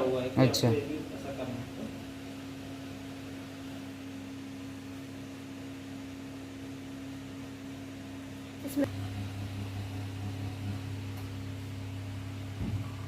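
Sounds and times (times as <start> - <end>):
washing machine hum: 0.0 - 13.0.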